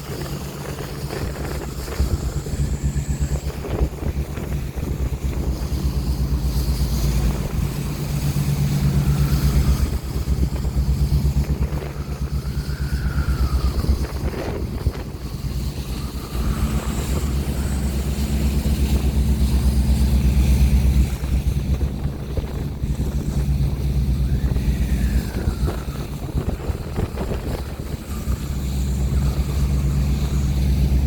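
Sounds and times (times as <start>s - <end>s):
boat engine drone: 0.0s - 31.0s
ocean waves: 0.0s - 31.0s
wind gusts on microphone: 0.0s - 31.0s.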